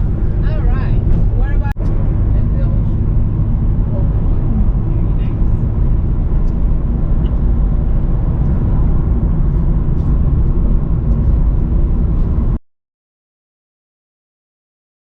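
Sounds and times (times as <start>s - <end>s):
vehicle engine and road noise: 0.0s - 12.6s.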